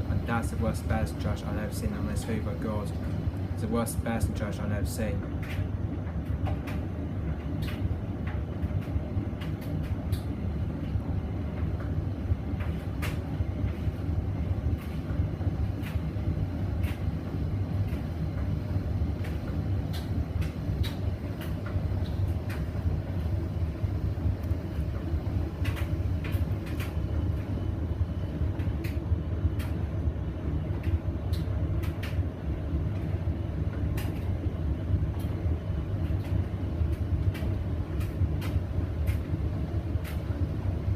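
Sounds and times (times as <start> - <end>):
washing machine drum rumbling: 0.0 - 40.9.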